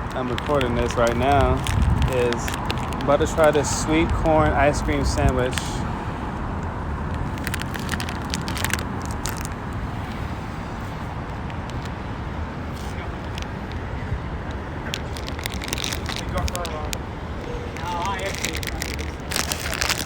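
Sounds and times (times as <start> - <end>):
road traffic rumble: 0.0 - 20.0
sharp crackles: 0.0 - 20.0.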